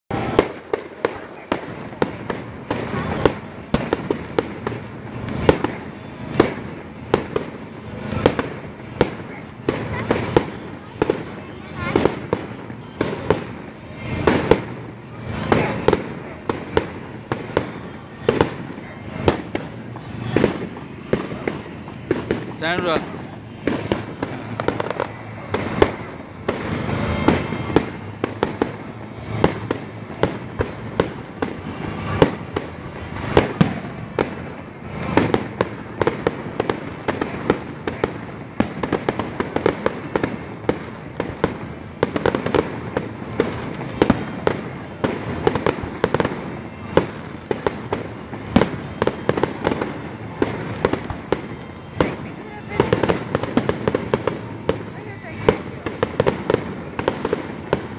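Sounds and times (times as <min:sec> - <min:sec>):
fireworks bursting with sharp bangs: 0:00.1 - 0:57.9.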